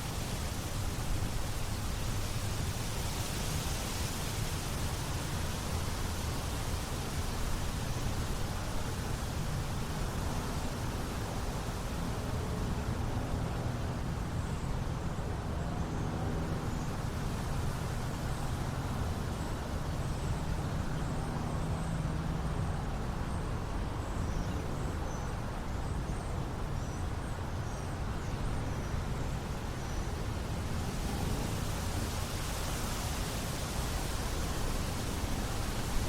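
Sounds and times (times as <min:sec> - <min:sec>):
wind: 0:00.0 - 0:36.0.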